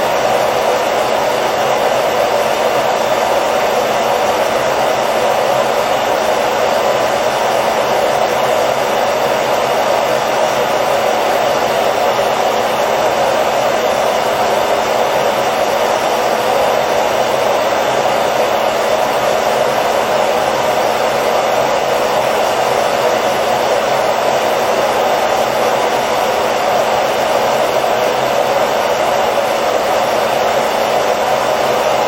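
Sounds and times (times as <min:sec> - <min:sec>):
hair dryer blowing air: 0:00.0 - 0:32.0.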